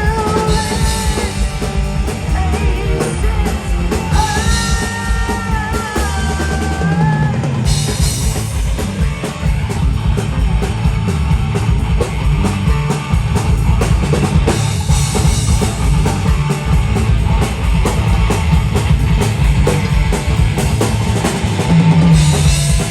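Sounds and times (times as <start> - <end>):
drum kit beat: 0.0 - 22.9
live rock band playing: 0.0 - 22.9.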